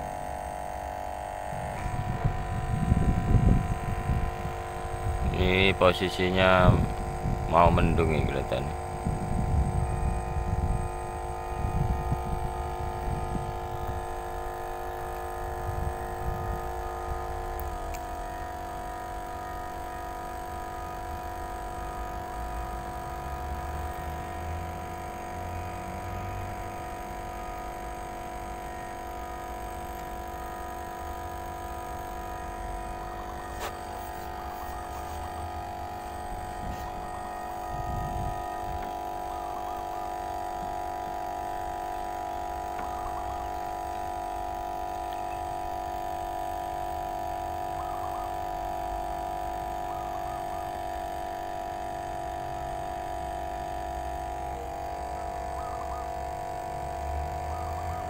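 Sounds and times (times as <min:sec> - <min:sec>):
steady hum of held tones: 0:00.0 - 0:58.0.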